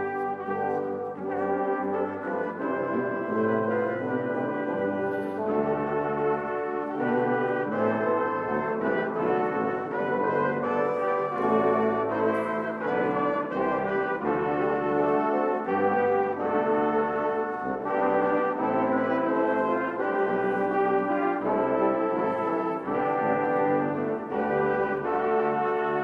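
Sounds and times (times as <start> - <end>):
brass ensemble playing chords: 0.0 - 26.0.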